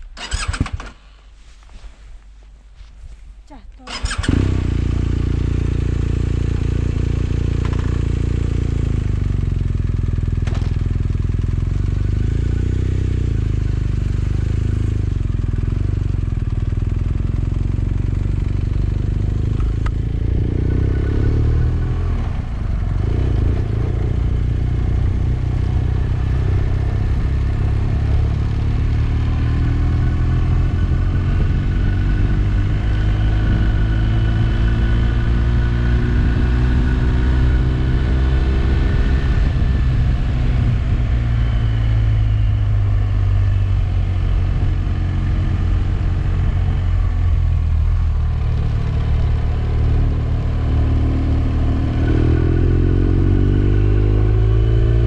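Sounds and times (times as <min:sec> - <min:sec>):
motorcycle engine running: 0:03.8 - 0:55.0.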